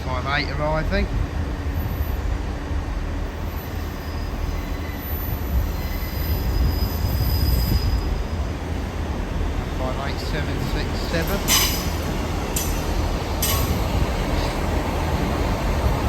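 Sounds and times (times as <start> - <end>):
diesel train rumble: 0.0 - 16.0.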